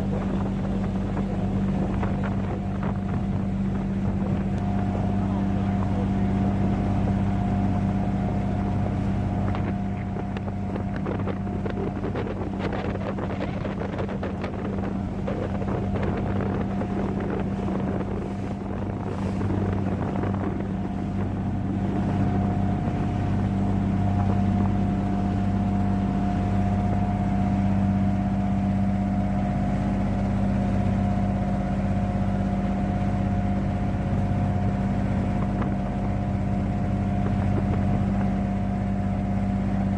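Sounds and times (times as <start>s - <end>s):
boat motor running: 0.0s - 39.9s
rushing wind or water: 0.0s - 39.9s.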